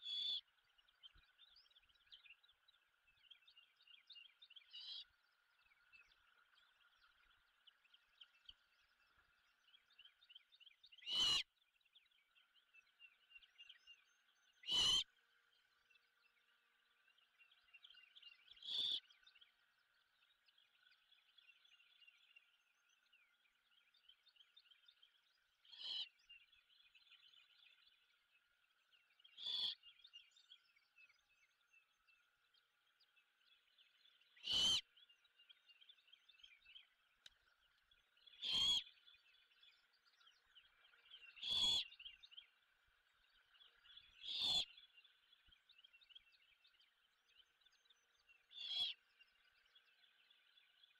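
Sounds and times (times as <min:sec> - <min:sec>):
faint chorus of small chirps: 0:00.0 - 0:50.9.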